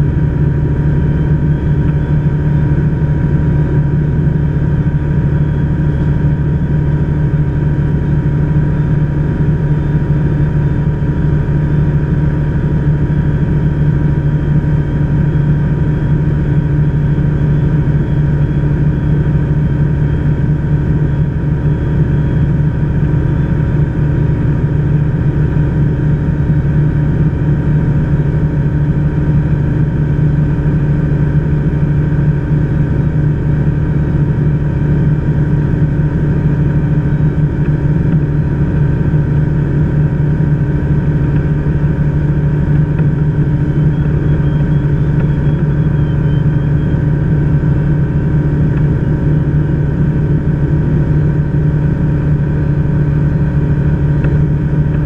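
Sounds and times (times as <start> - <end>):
propeller engine droning: 0.0 - 55.0.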